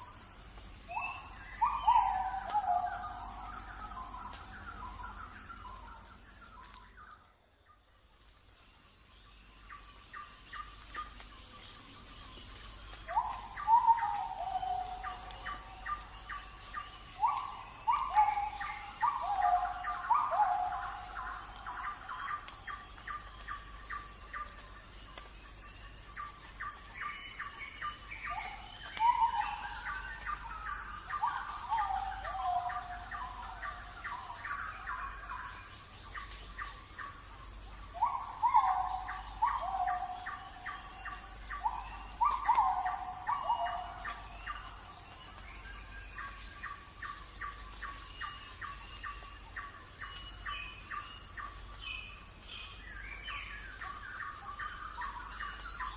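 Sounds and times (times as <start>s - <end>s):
birds singing: 0.6s - 55.9s.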